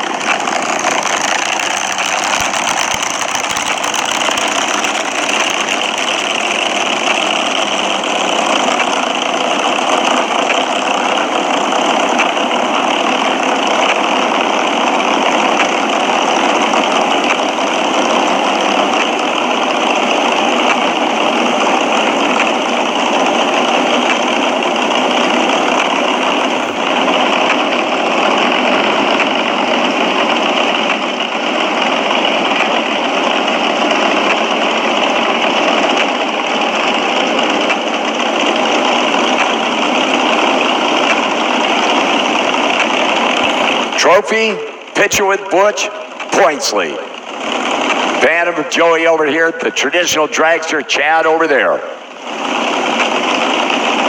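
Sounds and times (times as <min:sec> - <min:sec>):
dragster engines idling: 0:00.0 - 0:54.0.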